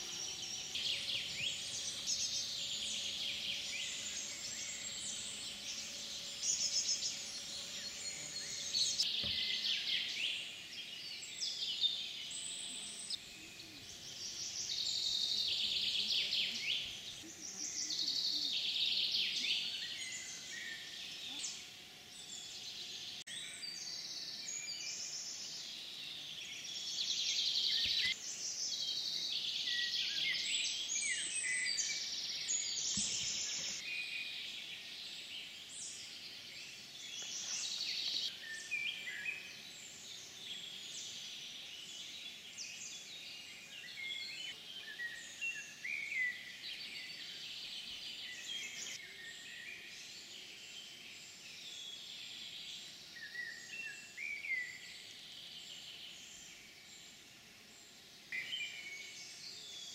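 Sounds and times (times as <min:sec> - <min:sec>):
birds chirping and whistling: 0:00.0 - 0:55.0.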